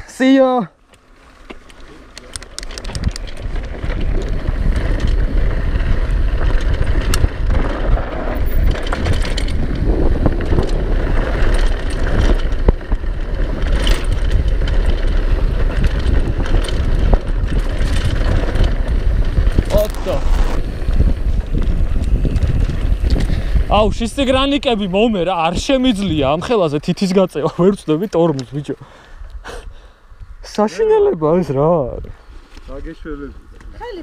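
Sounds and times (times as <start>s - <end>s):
bike chain rattling and clicking: 0.9s - 28.8s
tyres rolling over dirt: 1.0s - 28.7s
wind buffeting microphone: 2.6s - 34.0s.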